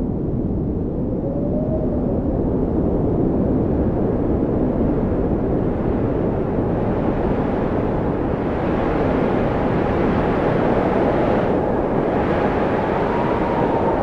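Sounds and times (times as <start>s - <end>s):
blizzard wind blowing: 0.0s - 14.0s.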